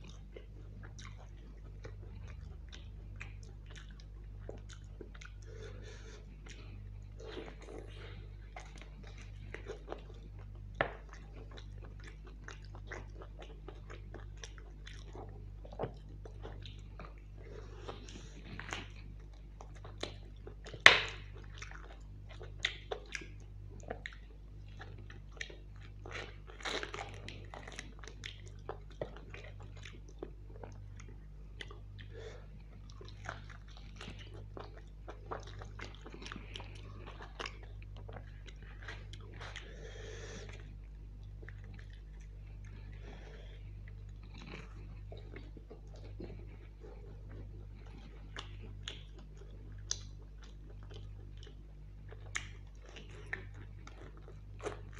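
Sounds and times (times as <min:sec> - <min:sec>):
chewing with wet mouth clicks: 0:00.0 - 0:54.9
faint low hum: 0:00.0 - 0:54.9.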